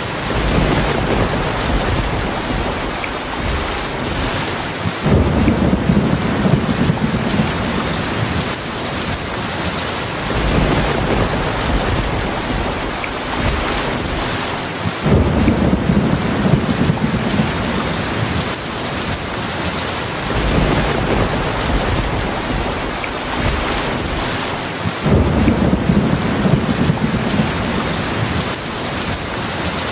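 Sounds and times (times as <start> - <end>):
rolling thunder rumbles: 0.0 - 9.4, 10.1 - 19.4, 20.2 - 29.1
heavy rain pouring: 0.0 - 29.9.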